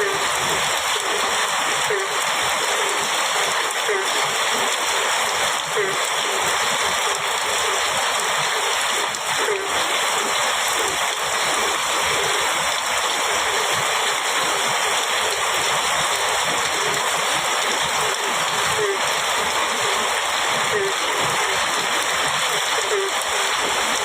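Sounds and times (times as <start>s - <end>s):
heavy rain on metal roof: 0.0s - 24.0s.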